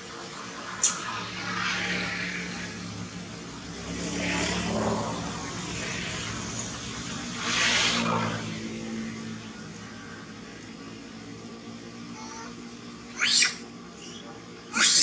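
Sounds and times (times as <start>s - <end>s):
passing traffic: 0.0s - 15.0s
vehicle engine humming: 0.0s - 15.0s.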